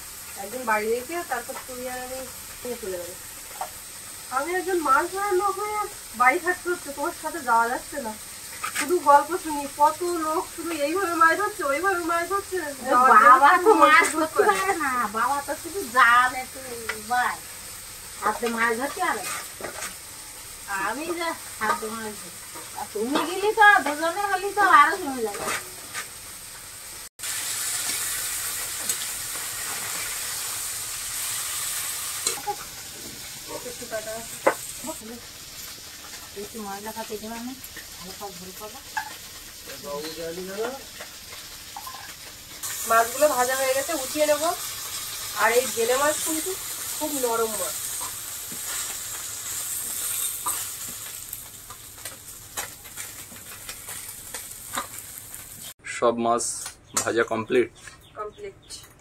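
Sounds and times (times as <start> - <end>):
fish sizzling in hot oil: 0.0 - 55.8.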